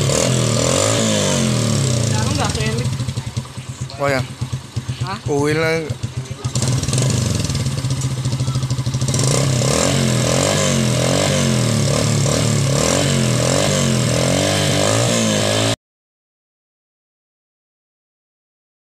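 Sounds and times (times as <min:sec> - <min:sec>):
motorcycle engine revving: 0:00.0 - 0:15.8.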